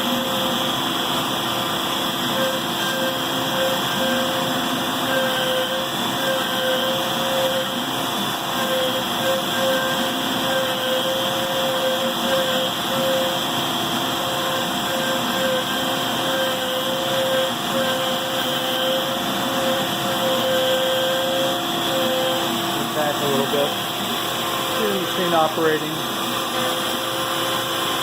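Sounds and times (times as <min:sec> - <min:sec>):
router spindle cutting: 0:00.0 - 0:28.0
stepper motor whine: 0:00.0 - 0:28.0
vacuum running: 0:00.0 - 0:28.0.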